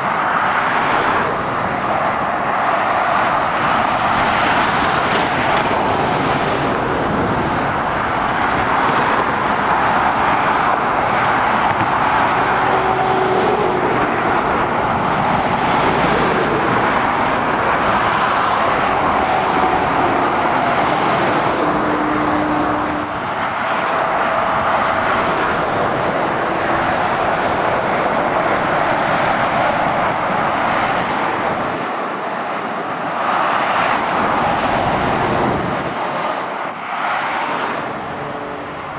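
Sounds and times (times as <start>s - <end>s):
motorway traffic tyre roar: 0.0s - 38.9s
vehicles passing by: 0.0s - 38.9s.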